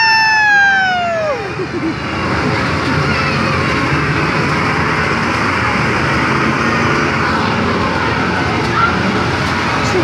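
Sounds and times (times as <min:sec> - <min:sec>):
rushing noise with low rumble: 0:00.0 - 0:10.0.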